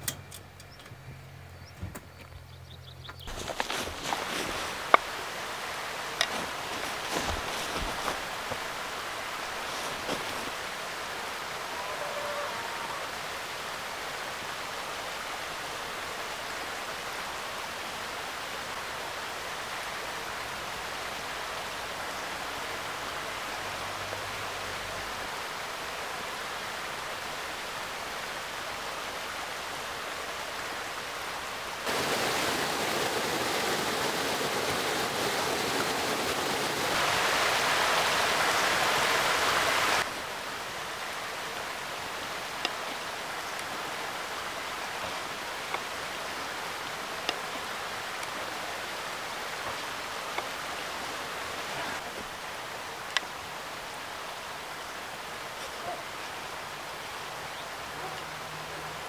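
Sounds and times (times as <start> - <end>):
steady soft hiss: 0.0 - 57.9
creek rushing over rocks: 3.1 - 59.0.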